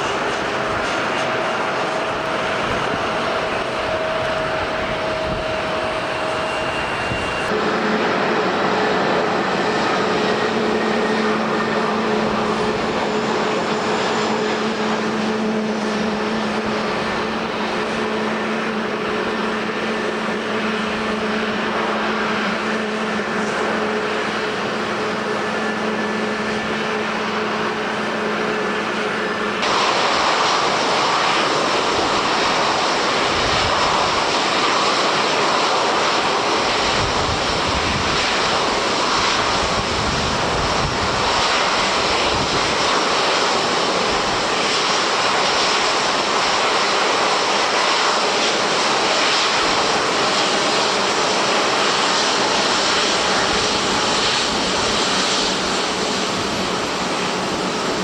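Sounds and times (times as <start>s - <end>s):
airliner engines whining: 0.0s - 58.0s
gusting wind: 0.0s - 58.0s.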